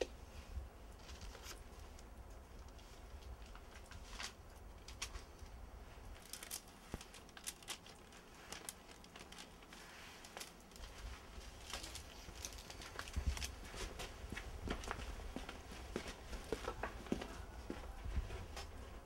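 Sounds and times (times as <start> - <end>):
paper and clothing rustling: 1.0 - 2.0, 2.6 - 19.0.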